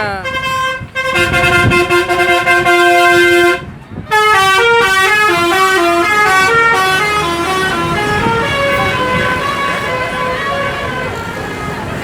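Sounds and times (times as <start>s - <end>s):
bus multi-tone musical horn: 0.0s - 12.0s.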